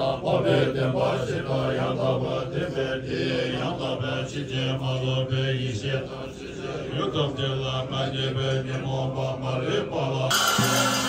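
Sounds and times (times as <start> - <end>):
monks chanting: 0.0 - 11.0.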